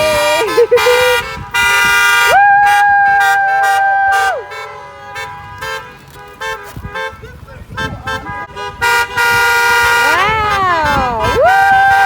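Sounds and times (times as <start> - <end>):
car horns honking: 0.0 - 12.0.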